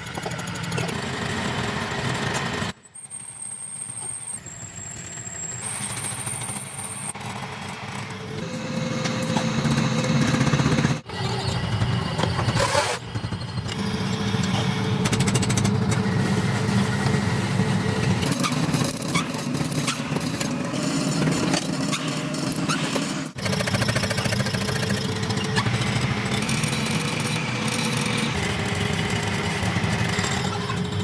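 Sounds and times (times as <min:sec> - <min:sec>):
workshop machinery rattling: 0:05.6 - 0:31.0.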